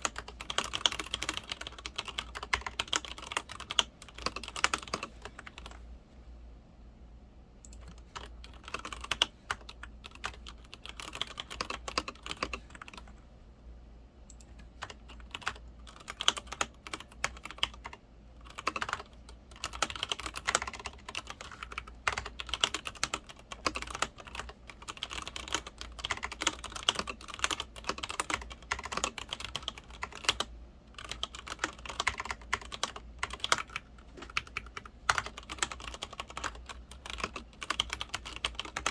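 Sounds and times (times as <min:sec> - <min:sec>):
mechanical keyboard typing: 0:00.0 - 0:05.8, 0:07.6 - 0:13.1, 0:14.3 - 0:38.9.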